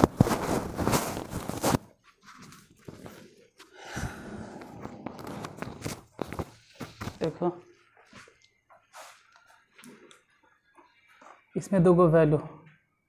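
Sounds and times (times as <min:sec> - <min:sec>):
person moving about and stepping: 0:00.0 - 0:11.6.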